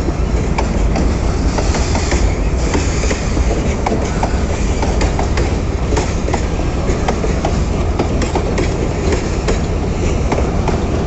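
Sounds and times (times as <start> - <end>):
train wheels rolling on rail: 0.0 - 11.0
clanks from wheels and couplings: 0.4 - 10.9.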